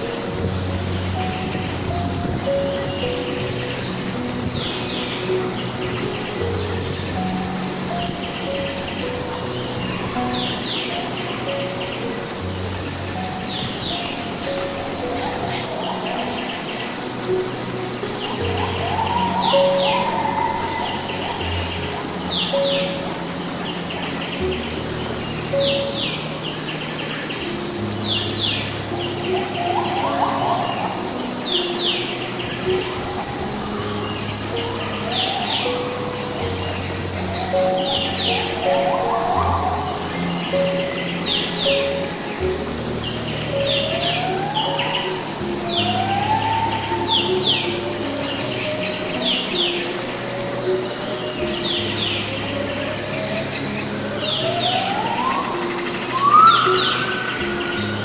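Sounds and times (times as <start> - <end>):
bird warbling: 0.0 - 58.0
birds chirping: 0.0 - 58.0
slow rising whistles: 0.0 - 58.0
steady hiss: 0.0 - 58.0.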